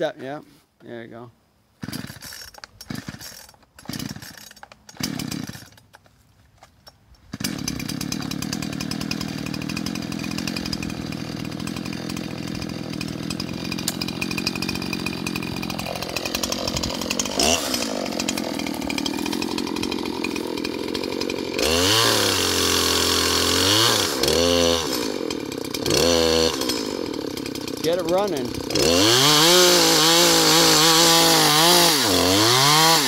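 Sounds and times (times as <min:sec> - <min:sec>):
chainsaw engine running: 0:01.8 - 0:05.8, 0:07.2 - 0:33.0
chainsaw starter cord pulls: 0:01.8 - 0:33.0.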